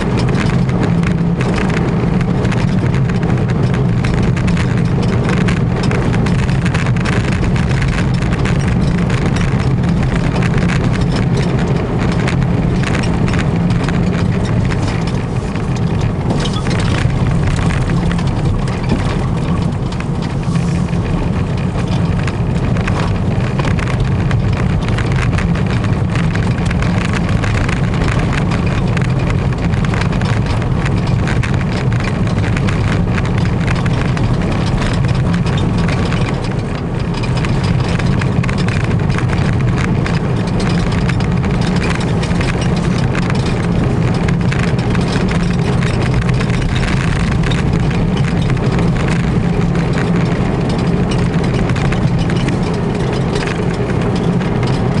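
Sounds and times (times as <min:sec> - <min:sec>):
car engine running: 0:00.0 - 0:55.0
road noise: 0:00.0 - 0:55.0.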